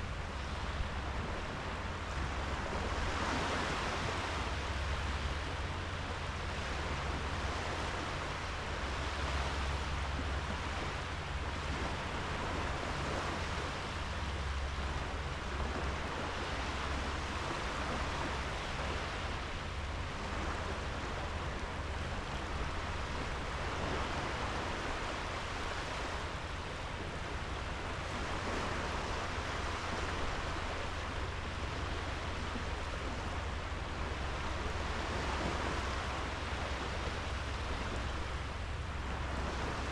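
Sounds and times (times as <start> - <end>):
waves washing onto sand: 0.0 - 39.9.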